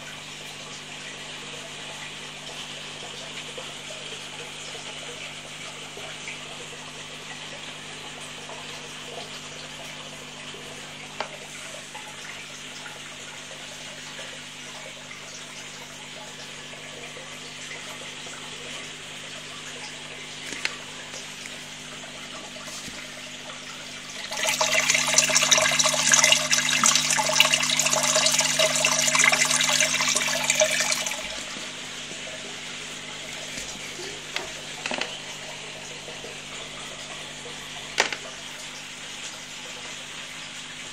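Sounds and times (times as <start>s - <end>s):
water splashing and bubbling: 2.1s - 40.9s.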